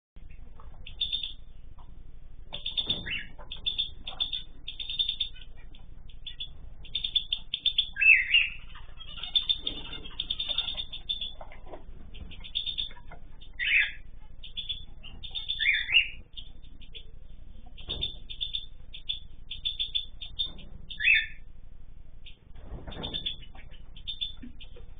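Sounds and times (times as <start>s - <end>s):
loud bird calls: 0.2s - 1.5s, 2.5s - 21.5s, 22.2s - 24.9s
cockatiels chirping: 0.3s - 1.4s, 2.5s - 21.5s, 22.2s - 24.9s.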